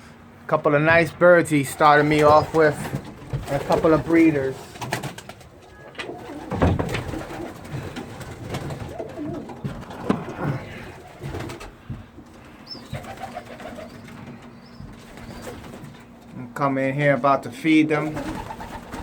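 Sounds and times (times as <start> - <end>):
pigeons cooing: 1.6 - 16.2, 18.0 - 19.0
birds knocking and rustling: 1.8 - 16.4, 18.0 - 19.0.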